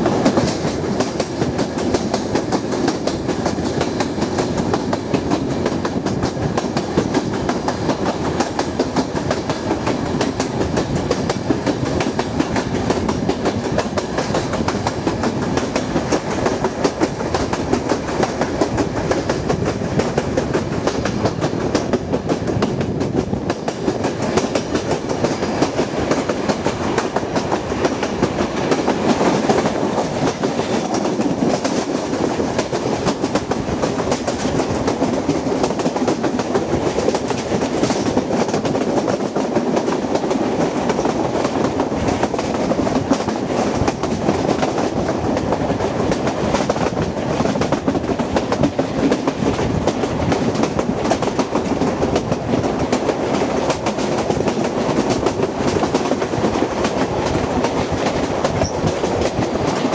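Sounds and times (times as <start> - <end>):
train wheels clattering: 0.0 - 59.9.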